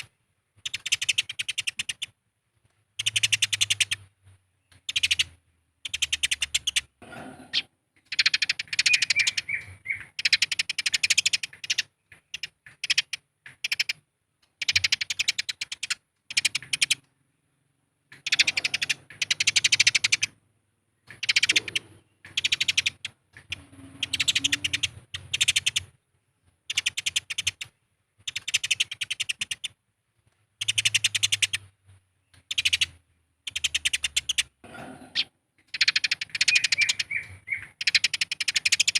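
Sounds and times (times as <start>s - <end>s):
sparrows chattering harshly: 0.0s - 2.2s, 2.9s - 20.4s, 21.0s - 26.0s, 26.6s - 29.8s, 30.6s - 38.9s.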